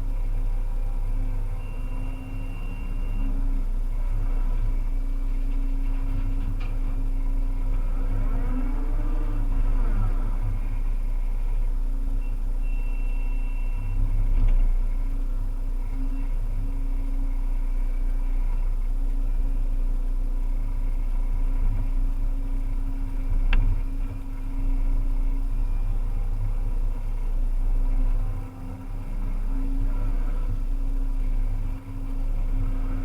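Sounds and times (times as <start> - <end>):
excavator engine and hydraulics: 0.0 - 33.0.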